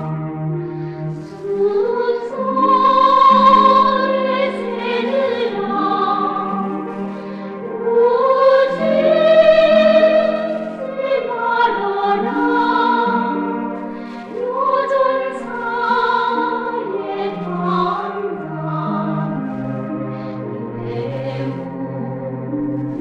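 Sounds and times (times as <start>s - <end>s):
choir singing: 0.0s - 23.0s
instrumental accompaniment: 0.0s - 23.0s.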